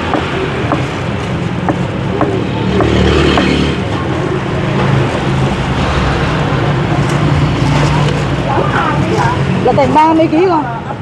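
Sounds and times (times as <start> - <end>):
traffic engines passing: 0.0 - 11.0.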